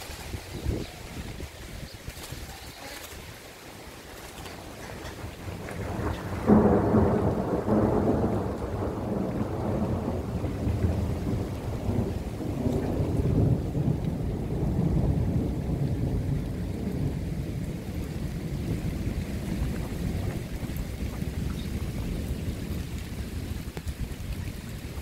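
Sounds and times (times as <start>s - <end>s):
rain: 0.0s - 25.0s
thunder rumbling: 0.0s - 25.0s.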